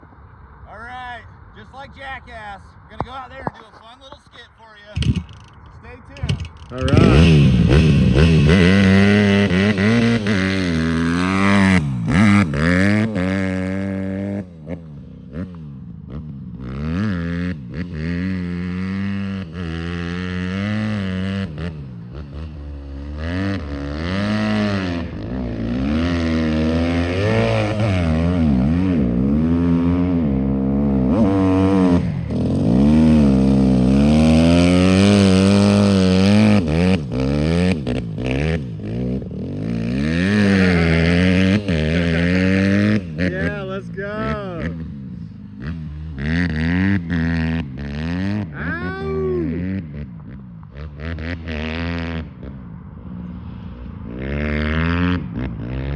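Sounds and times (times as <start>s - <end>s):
dirt bike engine revving: 4.9s - 55.9s.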